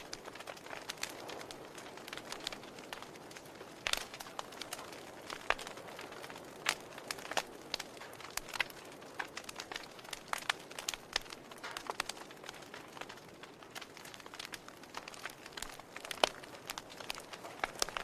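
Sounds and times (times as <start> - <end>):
burning logs crackling: 0.0 - 18.0.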